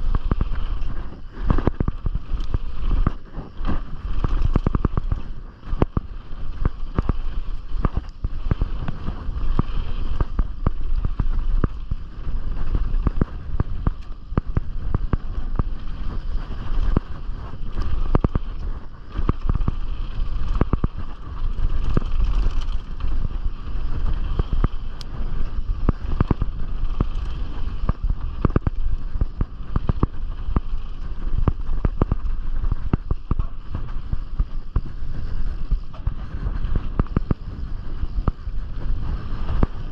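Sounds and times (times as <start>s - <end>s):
mountain bike clattering: 0.0s - 38.4s
wind rumble on microphone: 0.0s - 39.9s.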